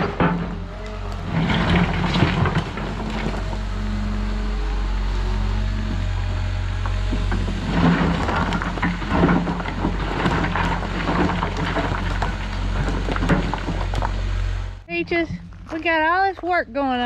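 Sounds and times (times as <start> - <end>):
rocks and dirt clattering: 0.0 - 4.3, 5.6 - 17.0
excavator diesel engine running: 0.0 - 17.0.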